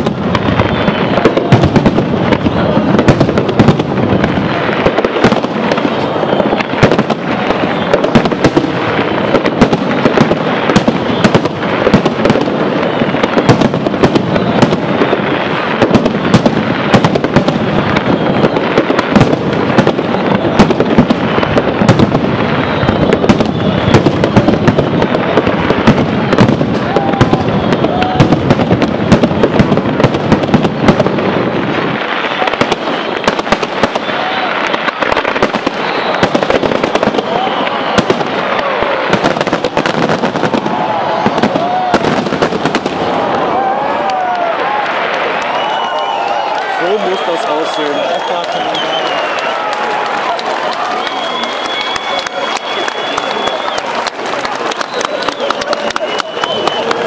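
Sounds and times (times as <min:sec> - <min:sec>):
firework crackling: 0:00.0 - 0:57.0
fireworks bursting: 0:00.0 - 0:57.0.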